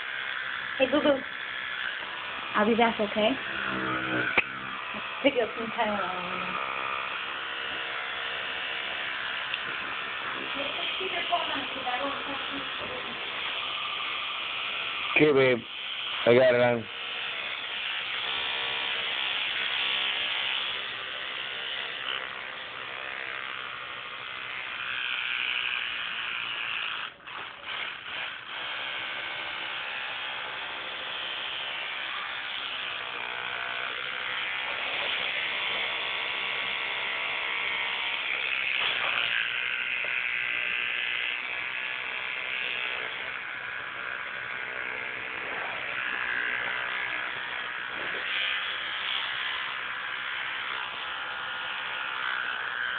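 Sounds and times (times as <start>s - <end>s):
electric toothbrush buzzing: 0.0s - 52.9s.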